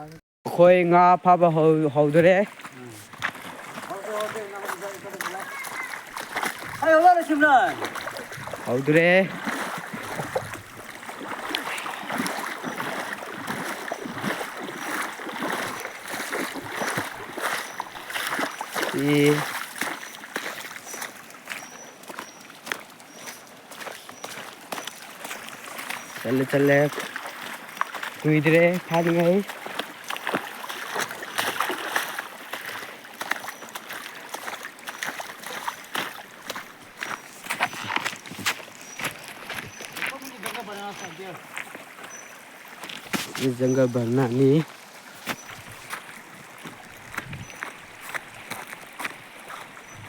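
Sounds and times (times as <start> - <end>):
running splashing water: 1.3 - 50.0.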